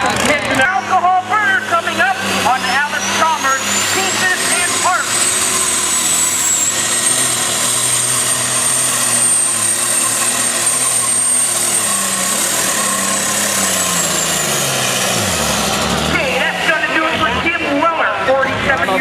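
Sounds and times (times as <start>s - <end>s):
diesel tractor engine: 0.0s - 19.0s
high turbo whine: 0.0s - 19.0s.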